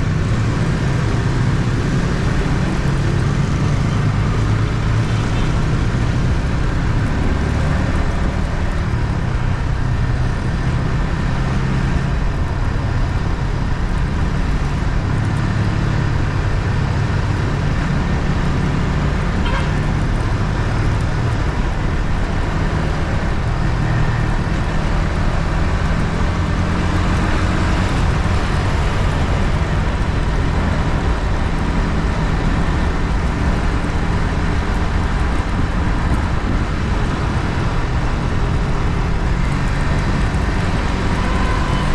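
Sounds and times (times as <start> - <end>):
motorcycle engine running: 0.0 - 41.9
road and wind noise: 0.0 - 41.9.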